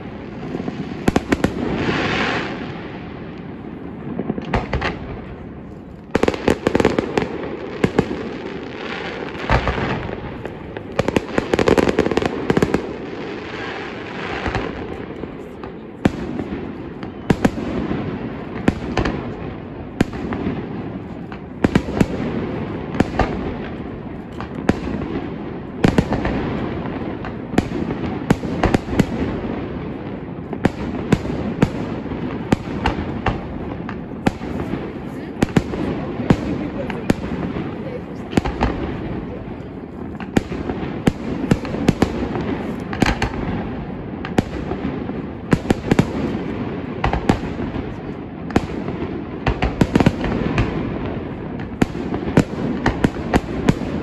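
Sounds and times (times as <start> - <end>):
firework bursts and bangs: 0.0 - 54.0
fireworks crackling: 0.0 - 54.0.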